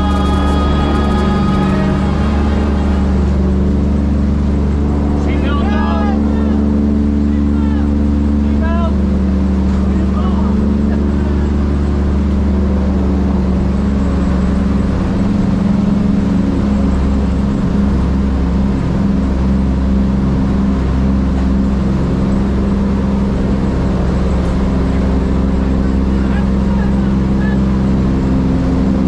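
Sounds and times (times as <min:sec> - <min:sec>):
propeller plane engines droning: 0:00.0 - 0:29.0.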